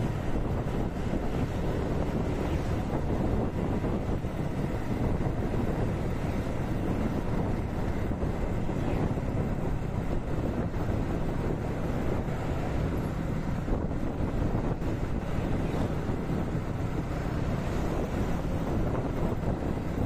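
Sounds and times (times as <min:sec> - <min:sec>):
motorcycle running: 0:00.0 - 0:20.0
road noise: 0:00.0 - 0:20.0
wind buffeting microphone: 0:00.0 - 0:20.0.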